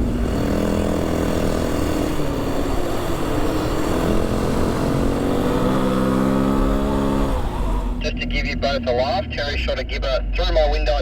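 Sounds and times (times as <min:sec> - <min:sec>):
tyre and road noise: 0:00.0 - 0:09.1
vehicle engine running: 0:00.0 - 0:11.0.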